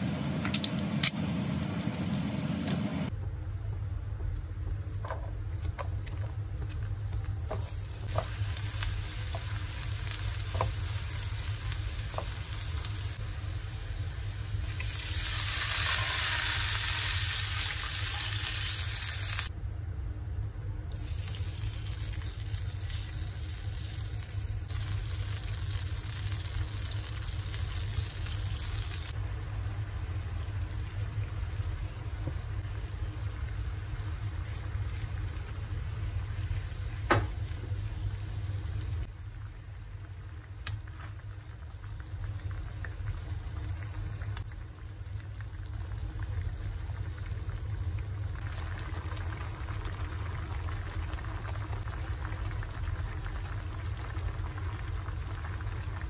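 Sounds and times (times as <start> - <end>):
food sizzling in a frying pan: 7.4 - 19.5, 21.0 - 56.0.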